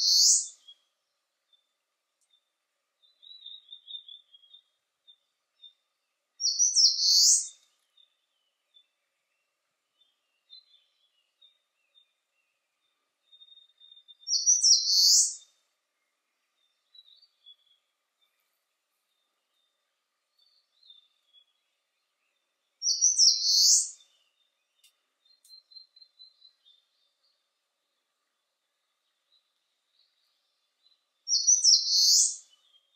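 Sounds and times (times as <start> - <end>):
warbler singing: 0.0 - 32.9.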